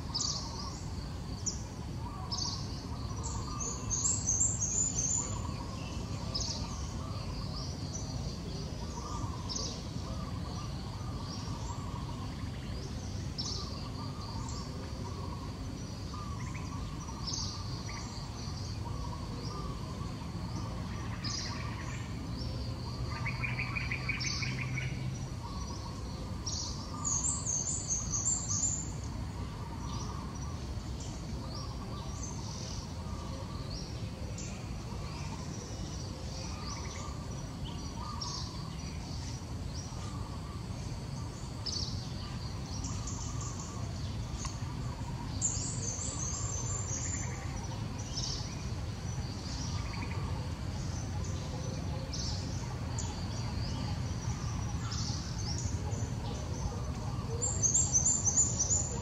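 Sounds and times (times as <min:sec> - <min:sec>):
birds chirping: 0:00.0 - 0:59.0
steady background hum: 0:00.0 - 0:59.0.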